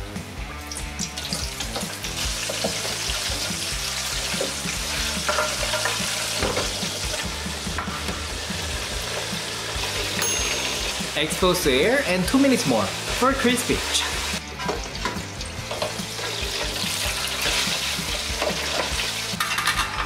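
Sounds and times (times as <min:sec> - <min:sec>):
chicken frying in hot oil: 0:00.0 - 0:10.2, 0:11.6 - 0:20.0.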